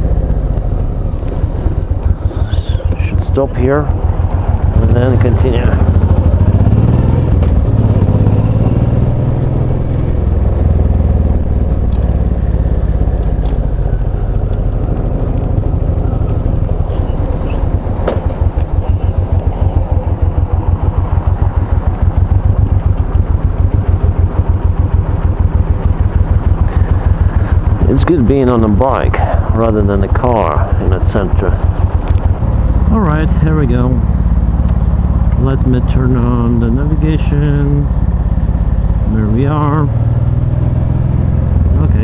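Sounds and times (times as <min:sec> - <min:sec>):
motorcycle engine idling: 0:00.0 - 0:42.0.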